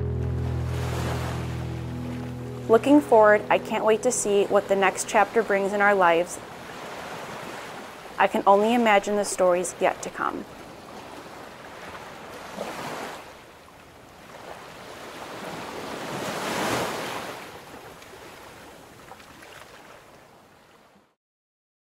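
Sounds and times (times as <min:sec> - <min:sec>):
lake waves: 0:00.0 - 0:21.1
wind: 0:00.2 - 0:21.2.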